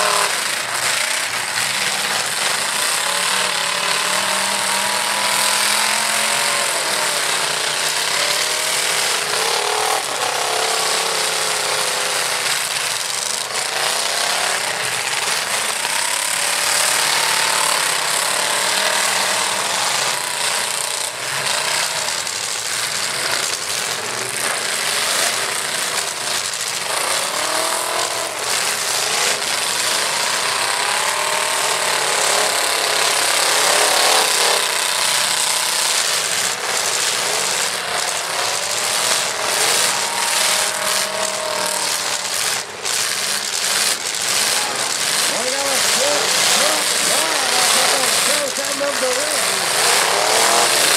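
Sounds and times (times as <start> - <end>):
truck engines revving: 0.0 - 50.9
vehicle crashes: 0.0 - 50.9.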